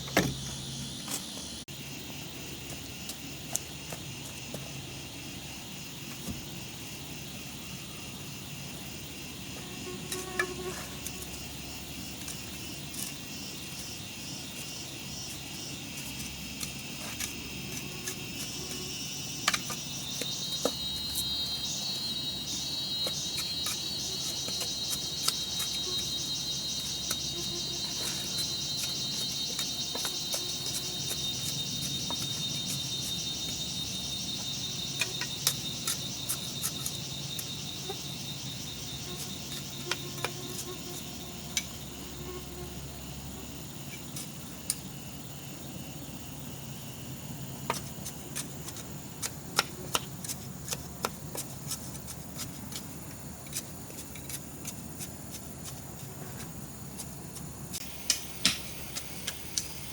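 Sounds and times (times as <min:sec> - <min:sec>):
crickets calling: 0:00.0 - 0:59.9.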